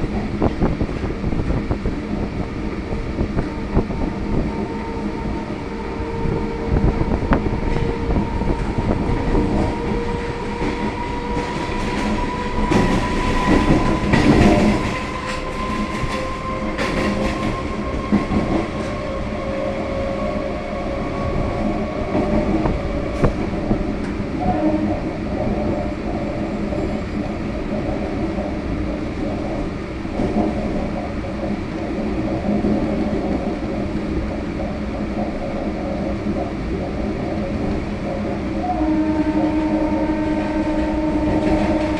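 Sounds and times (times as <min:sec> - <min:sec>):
train wheels rumbling and clattering: 0:00.0 - 0:41.9
train traction motors whining: 0:00.4 - 0:41.9.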